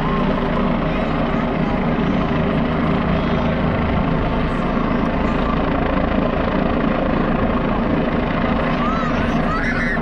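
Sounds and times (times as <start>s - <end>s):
helicopter rotor chop: 0.0s - 10.0s
helicopter turbine noise: 0.0s - 10.0s.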